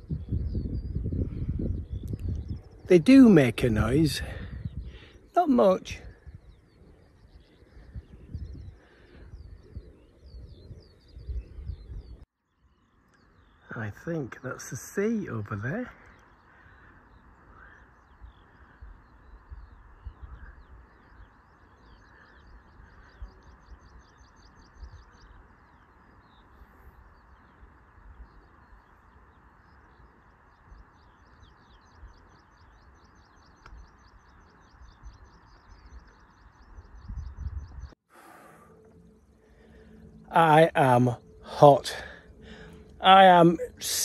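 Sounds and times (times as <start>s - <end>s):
wind rumble on microphone: 0.0s - 13.6s, 16.2s - 38.0s
small songbird singing: 0.0s - 44.0s.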